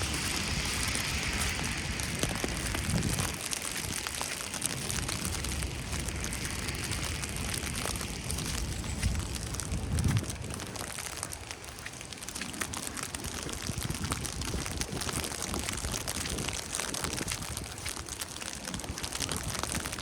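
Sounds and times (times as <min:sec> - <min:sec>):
snow pattering: 0:00.0 - 0:20.0.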